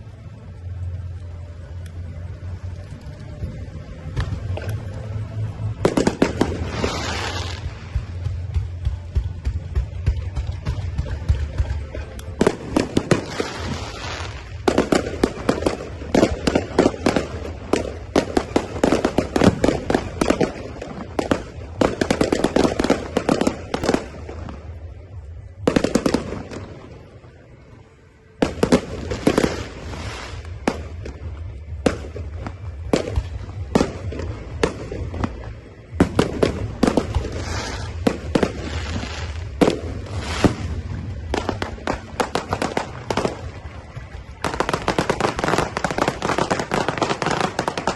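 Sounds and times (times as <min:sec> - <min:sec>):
fireworks bangs and crackling: 0:00.1 - 0:47.9.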